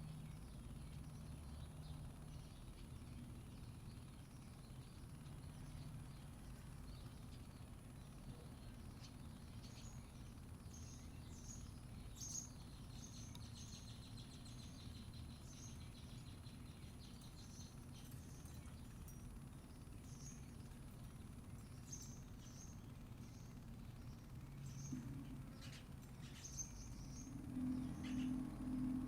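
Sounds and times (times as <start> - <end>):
buzzy bird trill: 0.0 - 29.0
low background rumble: 0.0 - 29.0
small birds chirping: 0.0 - 29.0.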